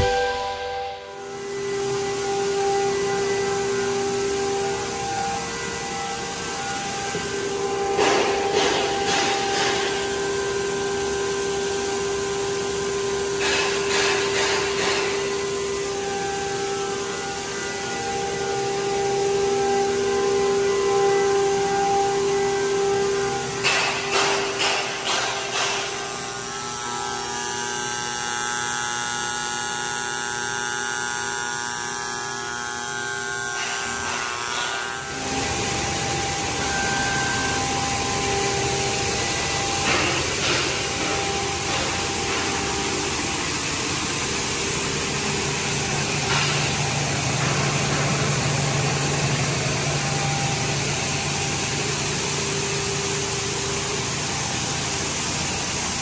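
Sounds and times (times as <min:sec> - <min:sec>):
din of motors with low drone: 0:00.0 - 0:56.0
machine hum with whining tones: 0:00.0 - 0:56.0.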